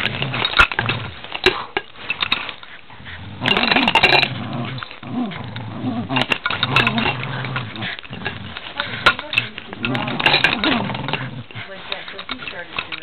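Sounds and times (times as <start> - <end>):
dogs play-growling: 0.0 - 13.0.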